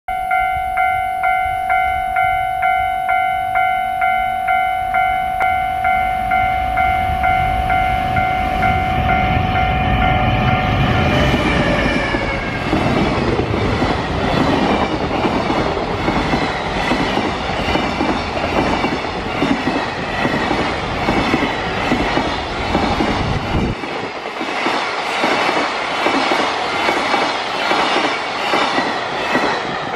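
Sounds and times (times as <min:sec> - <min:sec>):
electric locomotive whine: 0:00.1 - 0:29.9.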